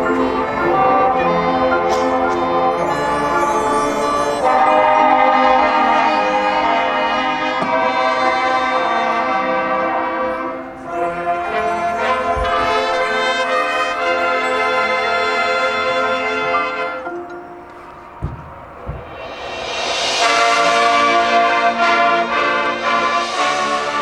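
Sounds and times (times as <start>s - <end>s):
marching band brass chords: 0.0s - 24.0s.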